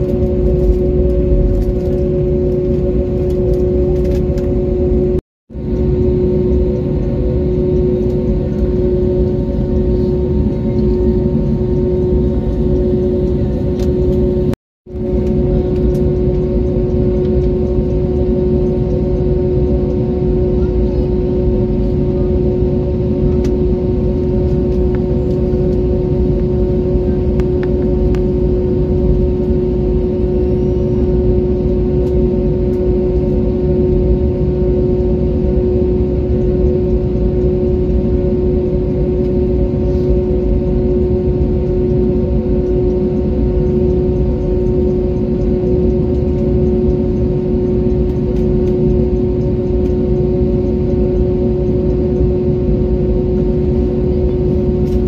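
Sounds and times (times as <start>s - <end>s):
jet engines idling in cabin: 0.0s - 55.0s.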